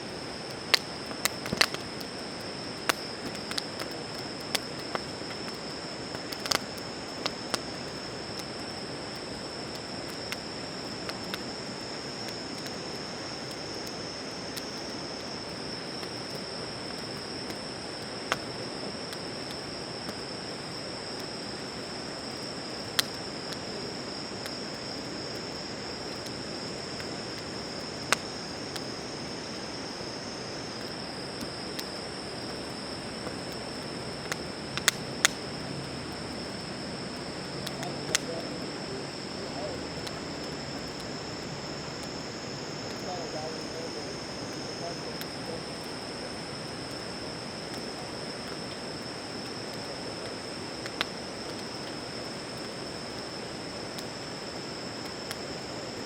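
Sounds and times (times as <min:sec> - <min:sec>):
campfire popping: 0:00.0 - 0:56.0
crickets trilling: 0:00.0 - 0:56.0.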